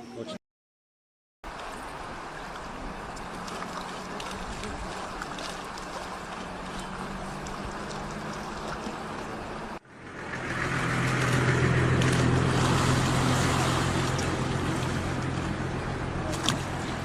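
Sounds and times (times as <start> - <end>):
engine humming: 1.5 - 17.0.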